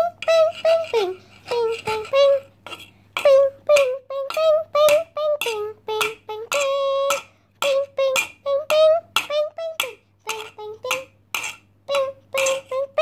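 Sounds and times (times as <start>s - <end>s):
child singing: 0.0s - 11.2s, 11.8s - 13.0s.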